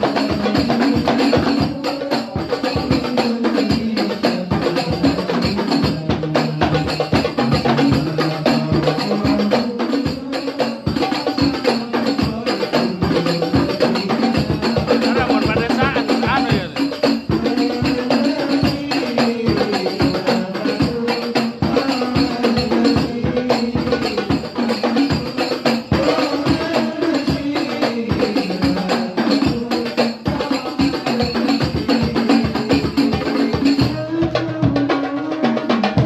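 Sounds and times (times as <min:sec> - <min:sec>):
percussion ensemble with hand drums: 0:00.0 - 0:36.0.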